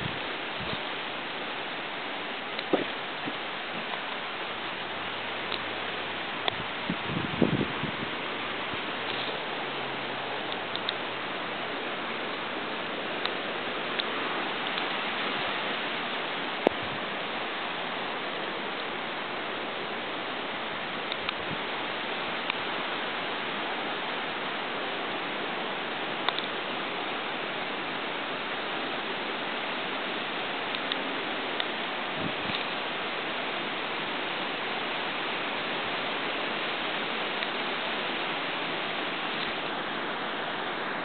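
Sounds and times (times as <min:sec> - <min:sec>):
rain hissing: 0:00.0 - 0:41.0.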